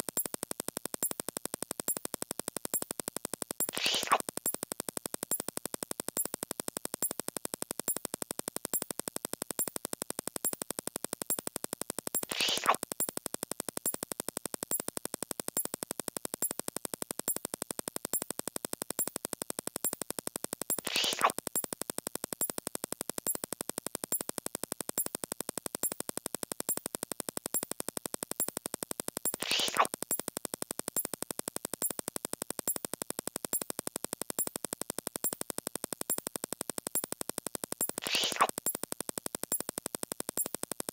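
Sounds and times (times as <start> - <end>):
rapid electronic clicks: 0.0 - 40.9.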